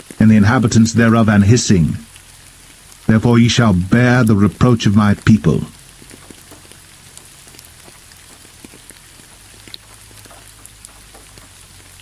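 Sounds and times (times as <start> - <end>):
faint low hum: 0.0 - 12.0
light rain falling: 0.0 - 12.0.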